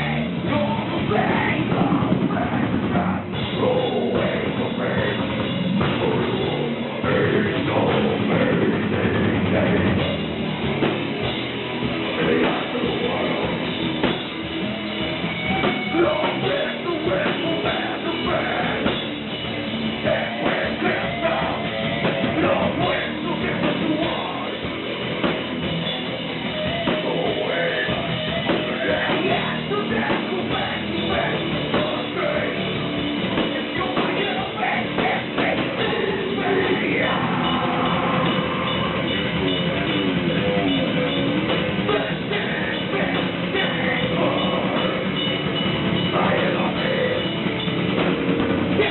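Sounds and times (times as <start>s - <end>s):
heavy metal band playing live: 0.0s - 48.9s.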